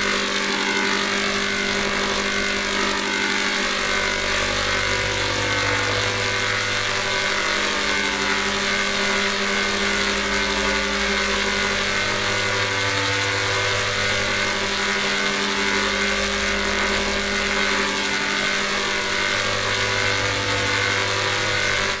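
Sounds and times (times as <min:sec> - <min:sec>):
electronic drone of held tones: 0:00.0 - 0:22.0.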